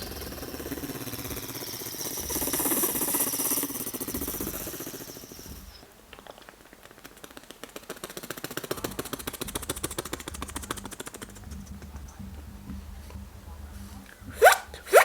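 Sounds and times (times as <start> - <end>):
low hum: 0.0 - 5.9, 8.7 - 15.0
rapid rattle of clicks: 0.0 - 14.5.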